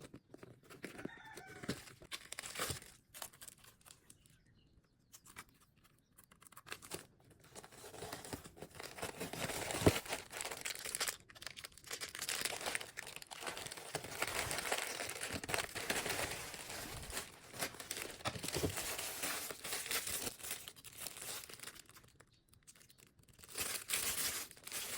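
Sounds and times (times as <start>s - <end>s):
packaging crinkling and tearing: 0.0s - 4.4s, 5.2s - 24.9s.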